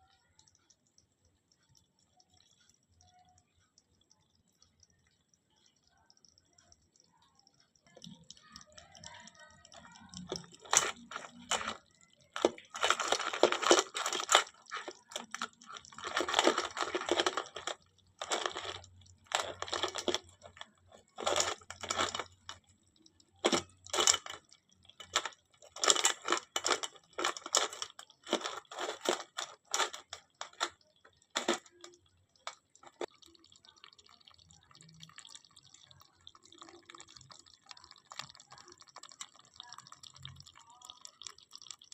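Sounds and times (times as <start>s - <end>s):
crabs clicking and crackling: 0.0s - 41.9s.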